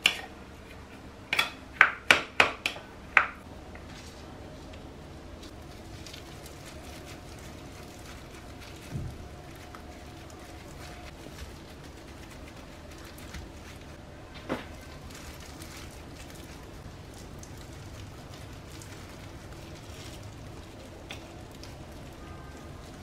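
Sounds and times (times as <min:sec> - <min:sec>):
soft crackling and rustling: 0:03.7 - 0:23.0.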